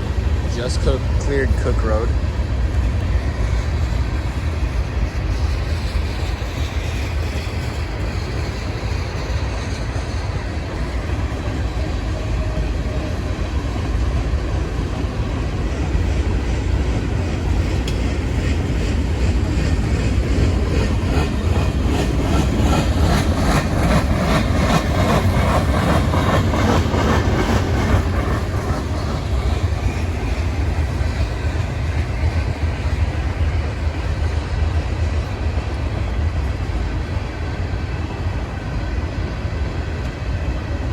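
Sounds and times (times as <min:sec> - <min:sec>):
freight train cars rumbling: 0:00.0 - 0:40.9.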